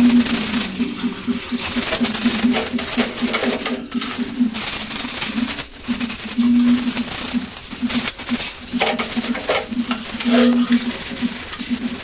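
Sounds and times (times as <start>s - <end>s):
scrubbing rubbing strokes: 0.0s - 12.0s.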